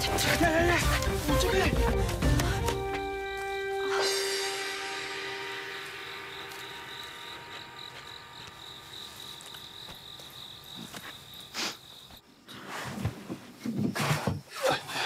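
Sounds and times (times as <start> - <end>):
crickets chirping: 2.8 - 15.0.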